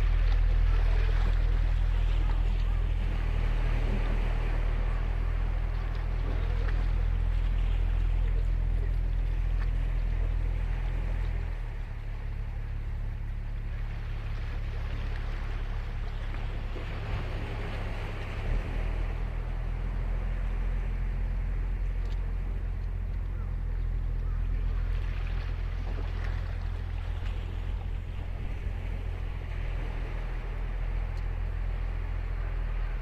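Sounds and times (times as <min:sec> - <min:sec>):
ocean surf breaking: 0:00.0 - 0:33.0
steady low rumble: 0:00.0 - 0:33.0.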